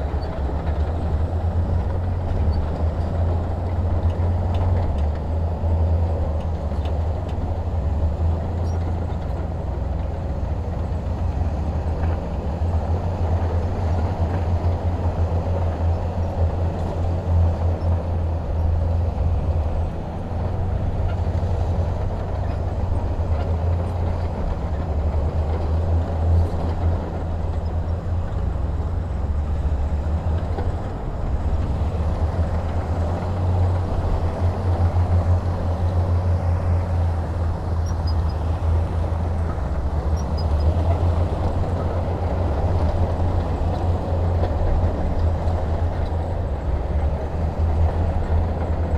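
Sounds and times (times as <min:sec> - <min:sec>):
heavy diesel engine droning: 0:00.0 - 0:48.9.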